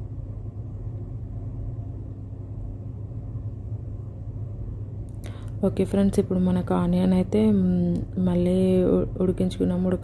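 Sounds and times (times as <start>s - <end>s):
low rumble of pan cooking: 0.0s - 10.0s.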